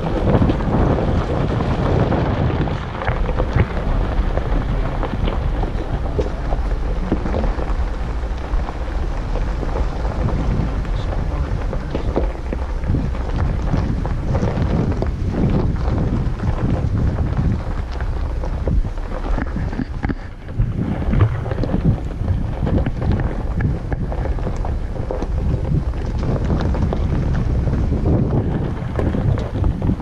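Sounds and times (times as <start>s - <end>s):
gravel crackling under tyres: 0.0s - 30.0s
low engine rumble: 0.0s - 30.0s
wind buffeting microphone: 0.0s - 30.0s.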